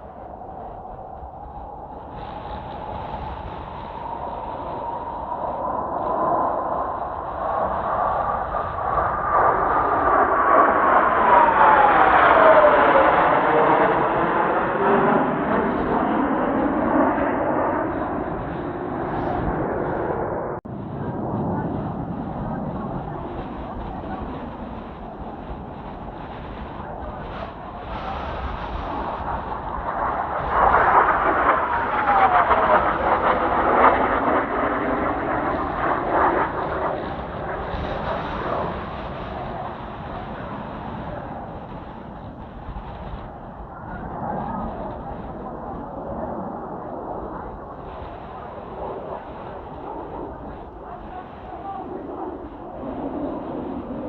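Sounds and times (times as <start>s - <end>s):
jets flying over: 0.0s - 54.0s.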